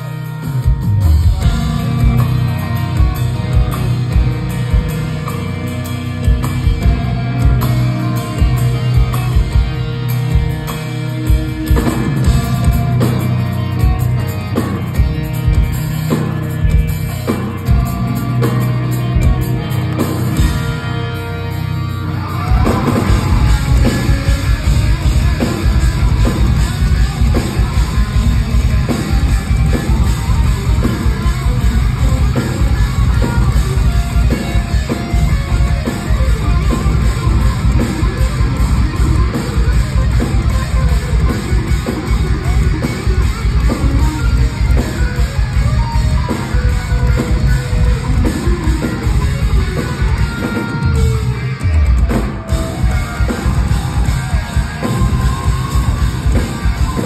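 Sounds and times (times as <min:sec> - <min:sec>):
metal band playing live: 0:00.0 - 0:57.0.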